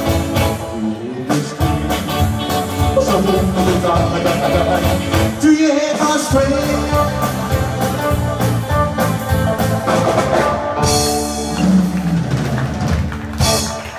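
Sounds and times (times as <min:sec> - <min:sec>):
rock band playing loudly: 0:00.0 - 0:13.9.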